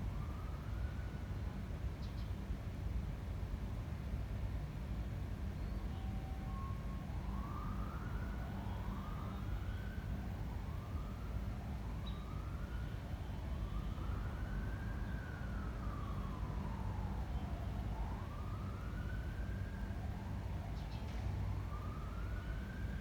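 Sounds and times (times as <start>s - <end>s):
faint emergency siren wailing: 0.0s - 23.0s.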